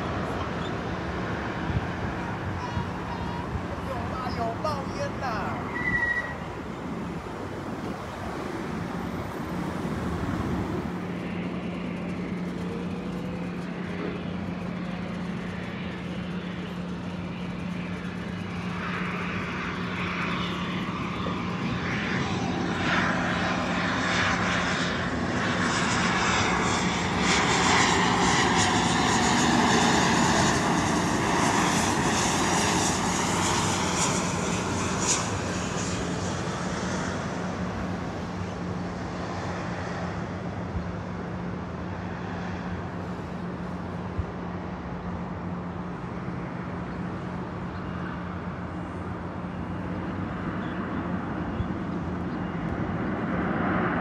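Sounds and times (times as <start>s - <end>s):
airliner engine rumble: 0.0s - 54.0s.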